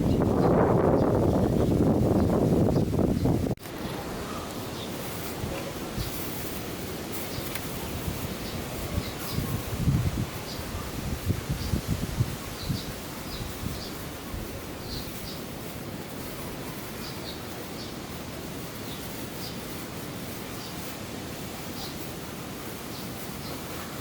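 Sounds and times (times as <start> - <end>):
small birds chirping: 0.0 - 21.0, 21.6 - 24.0
steady outdoor hiss: 0.0 - 24.0.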